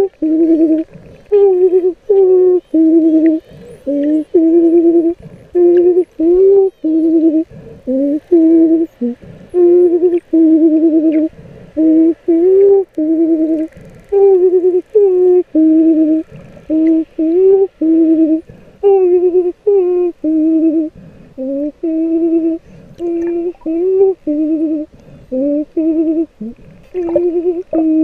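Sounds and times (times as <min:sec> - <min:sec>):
person humming underwater: 0:00.0 - 0:28.0.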